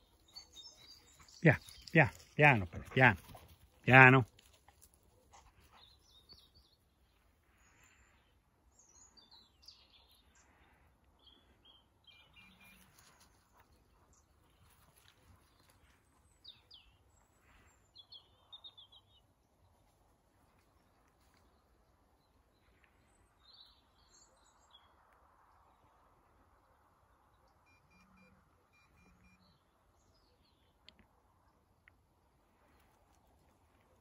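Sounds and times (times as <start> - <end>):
faint birds chirping: 0.0 - 34.0.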